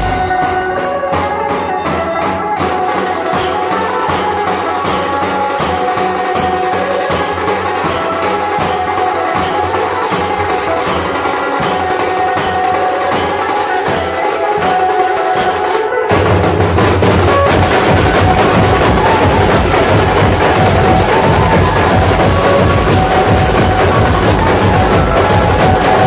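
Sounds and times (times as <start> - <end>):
drumming: 0.0 - 26.0.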